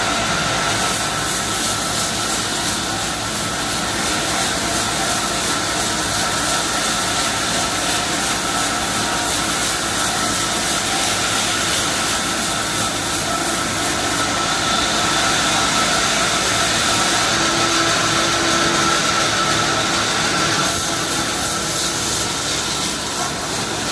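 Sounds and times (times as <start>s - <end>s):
sawmill sawing log: 0.0s - 23.9s.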